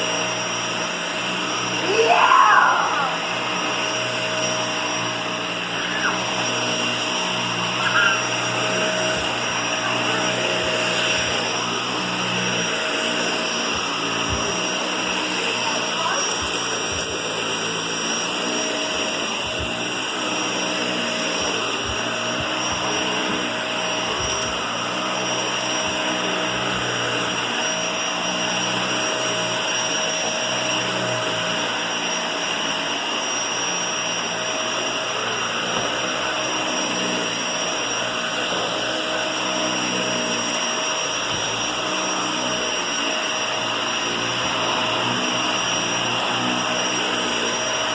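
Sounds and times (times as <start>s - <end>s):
vacuum cleaner hum: 0.0s - 47.9s
vacuum cleaner whine: 0.0s - 47.9s.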